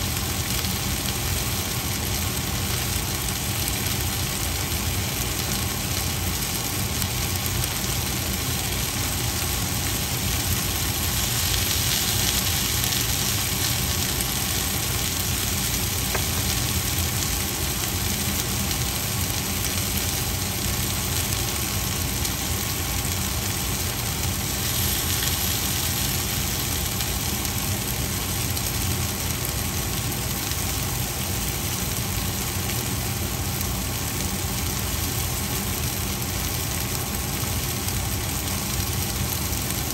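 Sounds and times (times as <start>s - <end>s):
constant low hum: 0.0s - 39.9s
vegetables sizzling in a frying pan: 0.0s - 39.9s.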